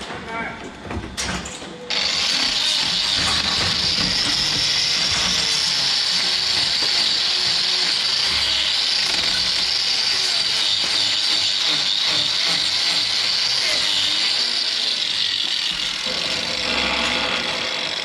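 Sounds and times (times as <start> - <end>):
power tool running: 1.9 - 18.0.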